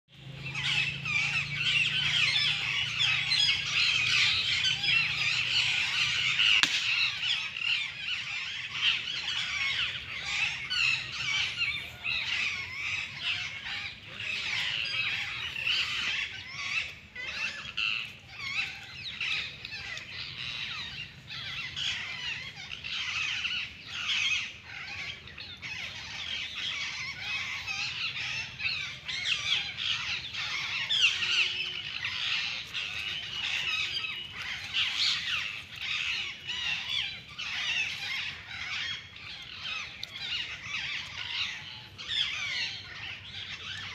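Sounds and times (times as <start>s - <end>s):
birds chirping and squawking: 0.1s - 43.9s.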